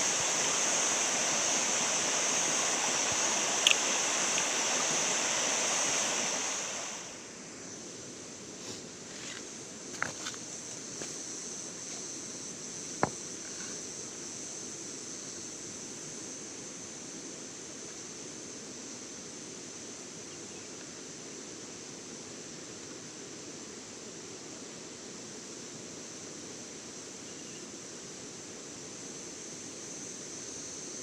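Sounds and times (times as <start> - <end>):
background hiss: 0.0 - 31.0
insect chorus: 0.0 - 31.0.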